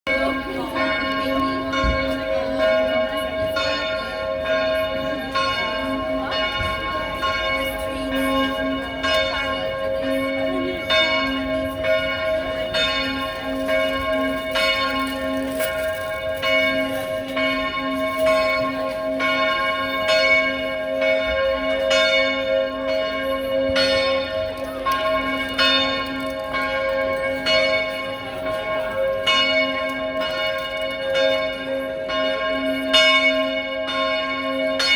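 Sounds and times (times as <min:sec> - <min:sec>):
church bell ringing: 0:00.1 - 0:34.9.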